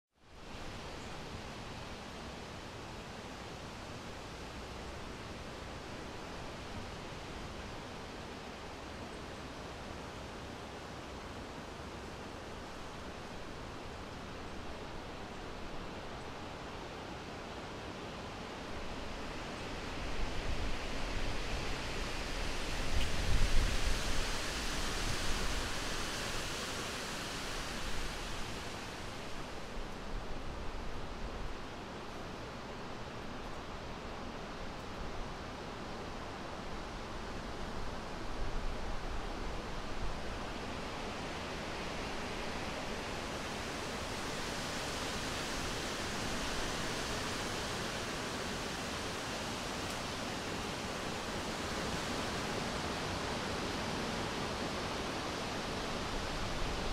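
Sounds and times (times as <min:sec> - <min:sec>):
steady wind hiss: 0:00.2 - 0:56.9.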